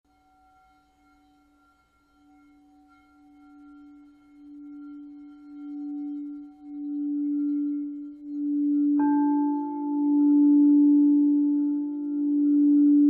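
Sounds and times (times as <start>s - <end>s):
higher-pitched singing bowl: 0.1s - 13.0s
low singing bowl tone: 0.1s - 13.0s.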